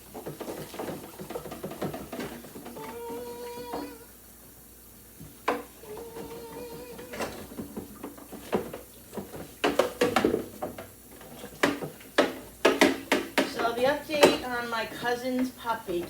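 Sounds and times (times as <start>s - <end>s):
plastic and dishes clattering: 0.0s - 4.0s, 5.2s - 16.0s.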